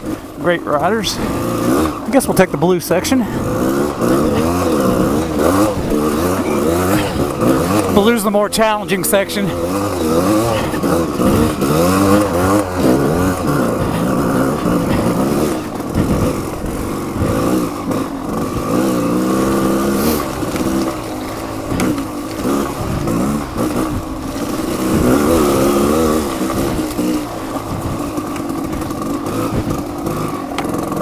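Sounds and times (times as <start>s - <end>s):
motorcycle engine revving: 0.0s - 31.0s
knocks and clatters: 3.6s - 31.0s.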